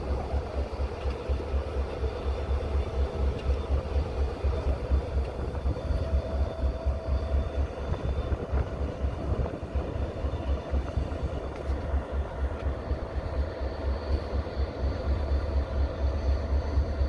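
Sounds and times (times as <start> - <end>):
diesel locomotives throbbing: 0.0 - 17.0.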